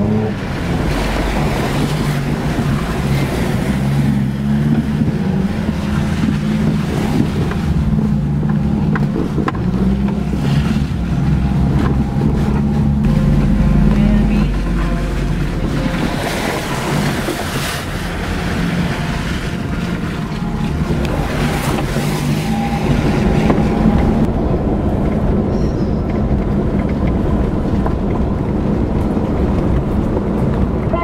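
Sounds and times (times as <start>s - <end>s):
tyres splashing through wet ruts: 0.0s - 31.0s
vehicle engine drone from inside cab: 0.0s - 31.0s.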